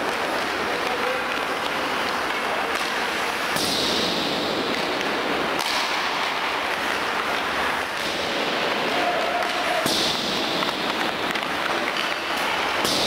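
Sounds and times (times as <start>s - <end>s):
cracks of sticks and puck: 0.0s - 13.0s
skates scraping ice: 0.0s - 13.0s.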